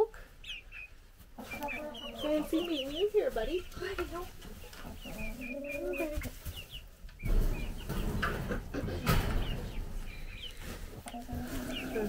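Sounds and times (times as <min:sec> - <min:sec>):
chickens clucking: 0:00.0 - 0:12.0
chicks peeping: 0:00.0 - 0:12.0
rustling and scuffling: 0:01.1 - 0:12.0.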